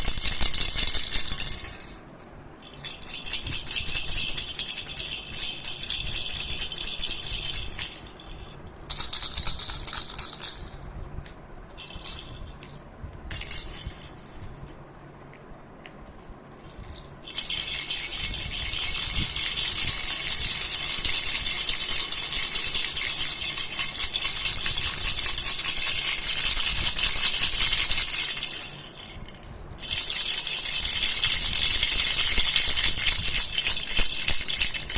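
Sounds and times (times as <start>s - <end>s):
baby rattle shaking: 0.0s - 14.8s, 16.0s - 34.9s.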